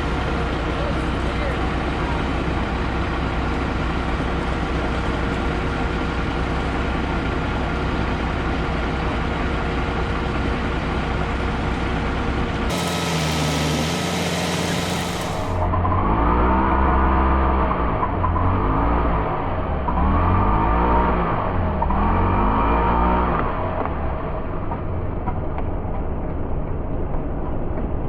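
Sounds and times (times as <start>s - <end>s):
heavy engine running: 0.0s - 28.0s.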